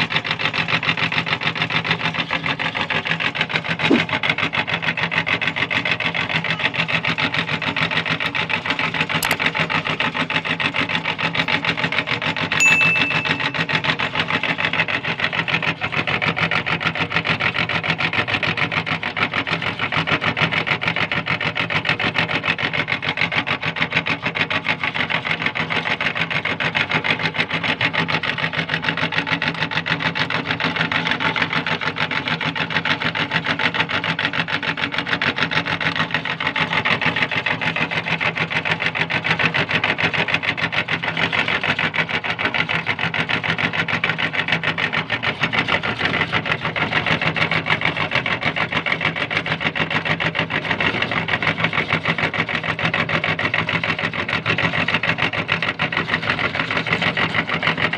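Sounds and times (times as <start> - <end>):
meat grinder whirring and rattling: 0.0 - 12.6, 14.2 - 57.9.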